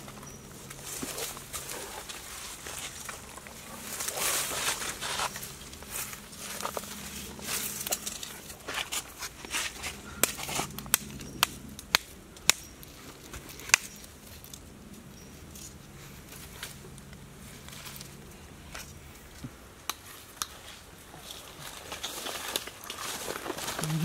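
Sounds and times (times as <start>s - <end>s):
stick crackling through dry leaves: 0.6s - 14.7s, 15.5s - 24.0s.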